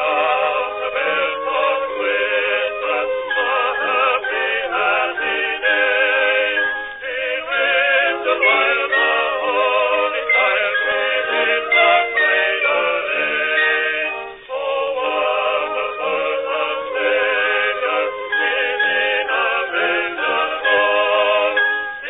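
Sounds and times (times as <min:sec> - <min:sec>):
voices singing in harmony: 0:00.0 - 0:22.0.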